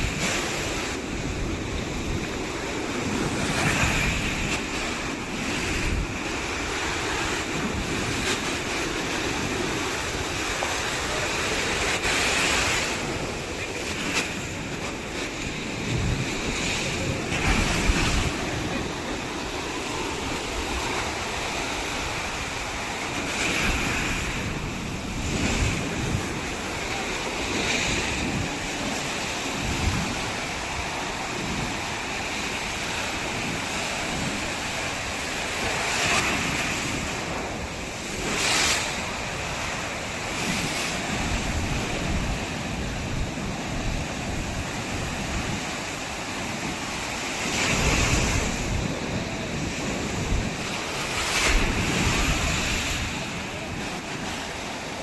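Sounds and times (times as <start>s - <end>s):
ocean surf breaking on beach: 0.0s - 55.0s
wind buffeting microphone: 0.0s - 55.0s.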